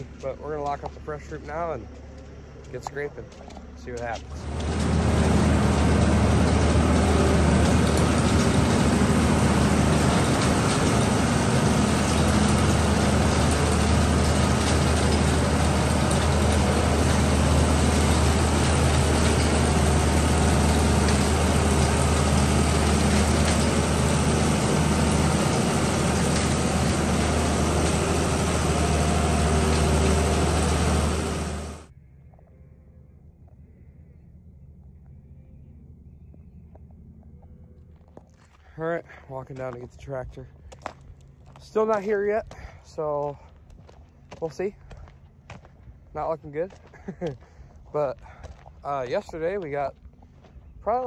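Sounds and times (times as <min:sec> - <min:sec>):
heavy machine engine humming: 0:00.0 - 0:51.0.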